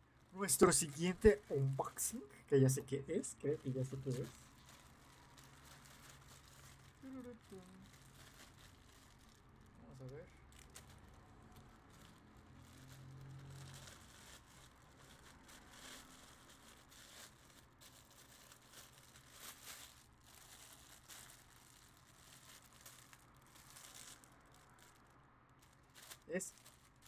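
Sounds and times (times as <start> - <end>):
plastic wrapping rustling: 0.0 - 27.0
plastic bag tearing: 0.1 - 27.0.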